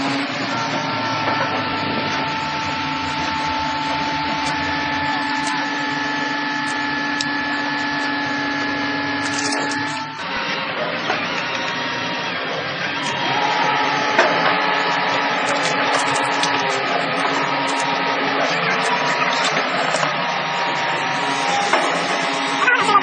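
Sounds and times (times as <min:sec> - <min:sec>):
excavator pile breaker running: 0:00.0 - 0:23.0
hydraulic whine: 0:00.0 - 0:23.0.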